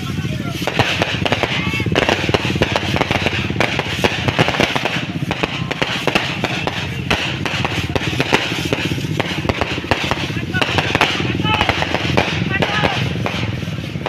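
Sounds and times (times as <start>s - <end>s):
fireworks popping and crackling: 0.0s - 14.0s
loud firework bangs: 0.0s - 14.0s.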